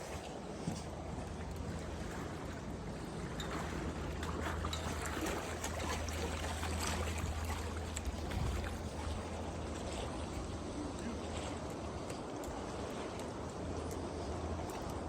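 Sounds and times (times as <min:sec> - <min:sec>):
boat motor humming: 0:00.0 - 0:15.0
water splashing along hull: 0:00.0 - 0:15.0.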